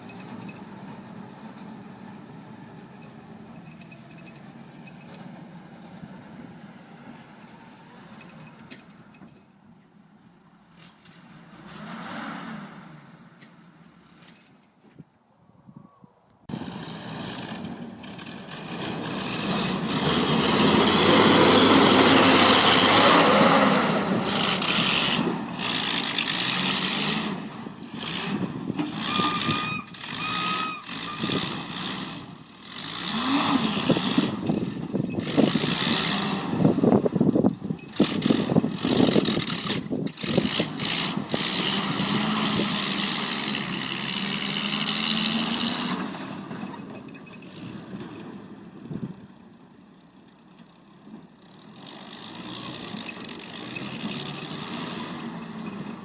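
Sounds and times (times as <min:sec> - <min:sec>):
plow engine running: 0:00.0 - 0:09.6, 0:16.5 - 0:56.0.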